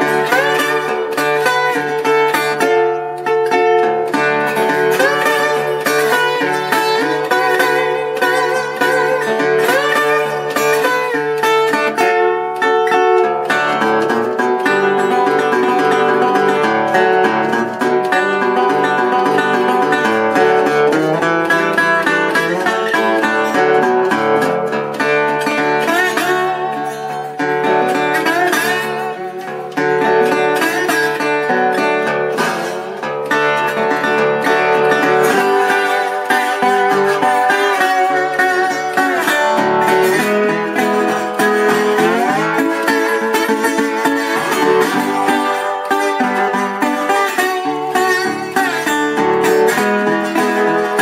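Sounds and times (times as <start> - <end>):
resonator guitar slide playing: 0.0 - 51.0.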